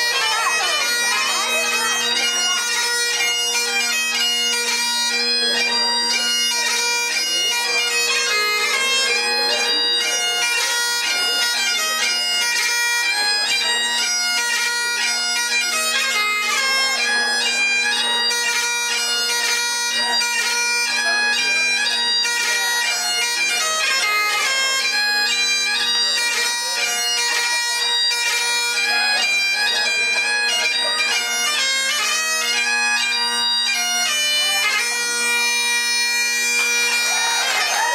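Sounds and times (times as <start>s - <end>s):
bagpipes playing a quick dance tune: 0.0s - 37.9s.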